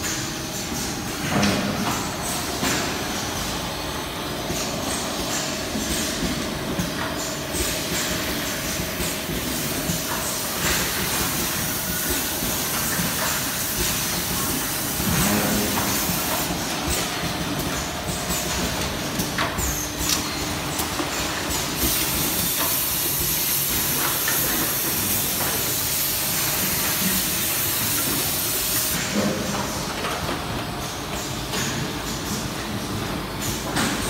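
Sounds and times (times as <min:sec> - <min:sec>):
machine and conveyor running: 0:00.0 - 0:34.0.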